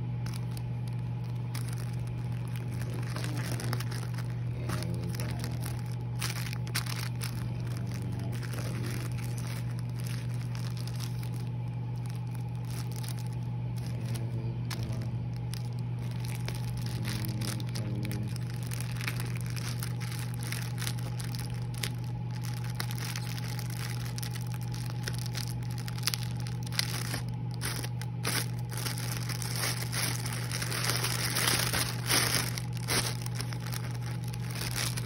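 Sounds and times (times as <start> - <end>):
paper and plastic crinkling: 0.0 - 35.0
steady low hum: 0.0 - 35.0.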